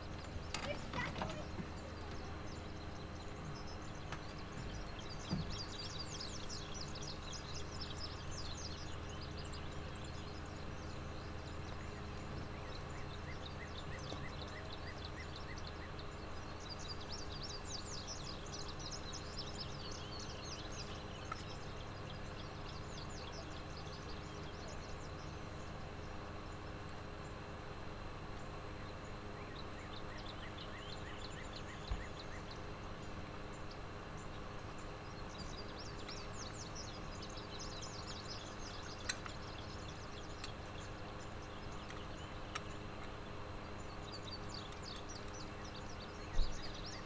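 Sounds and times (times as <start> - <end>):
birds trilling: 0.0 - 47.0
faint low hum: 0.0 - 47.0.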